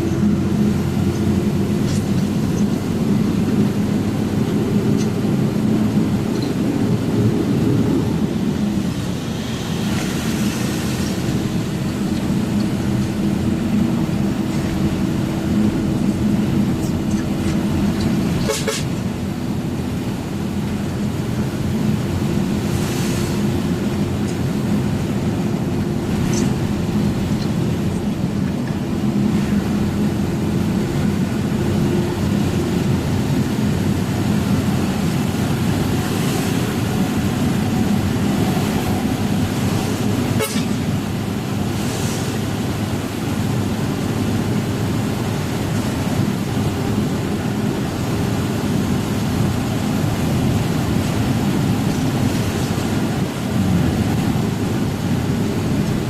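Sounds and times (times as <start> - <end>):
road noise: 0.0 - 56.0
truck engine droning: 0.0 - 56.0.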